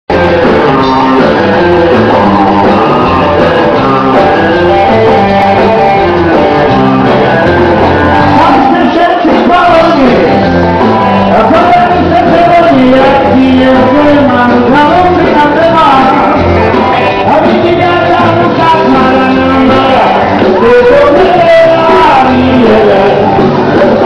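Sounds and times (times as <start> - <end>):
live rock band playing: 0.1 - 24.0
person singing: 0.1 - 24.0.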